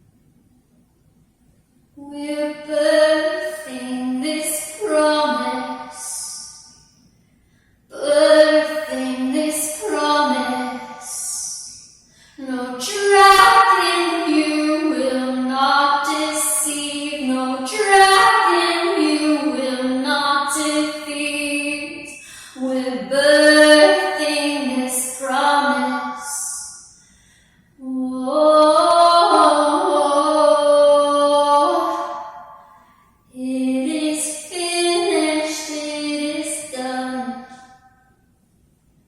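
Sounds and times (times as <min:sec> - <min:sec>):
woman singing unaccompanied: 0:02.0 - 0:06.5, 0:07.9 - 0:26.7, 0:27.8 - 0:32.6, 0:33.3 - 0:37.7.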